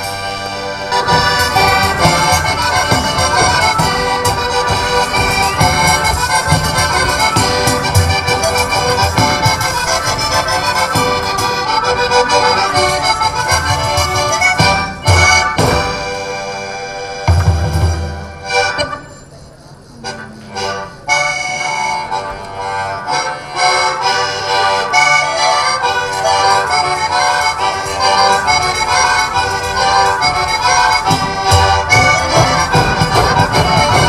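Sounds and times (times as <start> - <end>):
accordion folk dance tune: 0.0 - 34.0.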